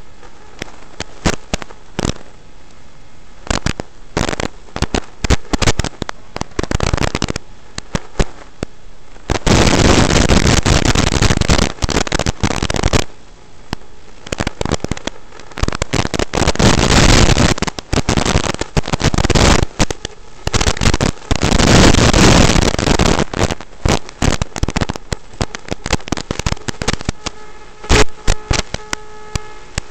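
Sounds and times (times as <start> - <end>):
harsh crackling static: 0.0 - 29.9.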